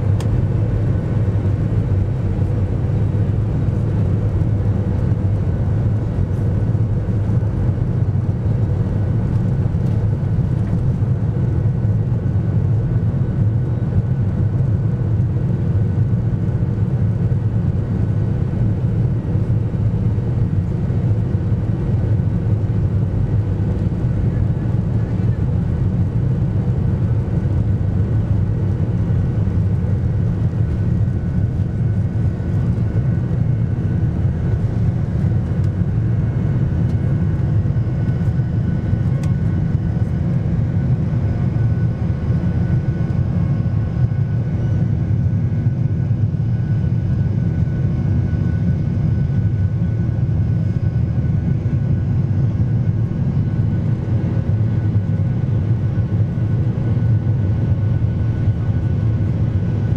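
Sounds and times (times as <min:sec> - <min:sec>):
faint engine whine: 0:00.0 - 0:59.9
jet engines roaring in cabin: 0:00.0 - 0:59.9.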